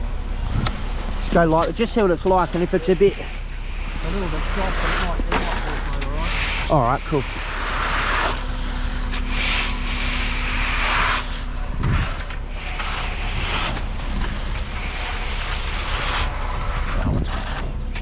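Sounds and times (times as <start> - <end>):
large engine rumbling: 0.0 - 18.0.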